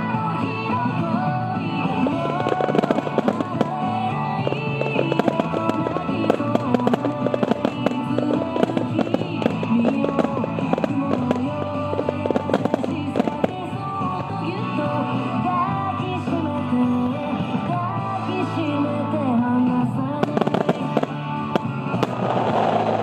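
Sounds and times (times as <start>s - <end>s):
fireworks bursts and crackles: 0.0s - 23.0s
loud music with singing: 0.0s - 23.0s.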